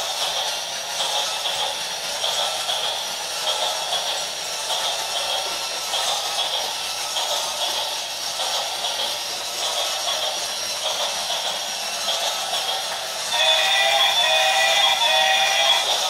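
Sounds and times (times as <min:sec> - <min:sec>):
toy train motor whirring: 0:00.0 - 0:16.0.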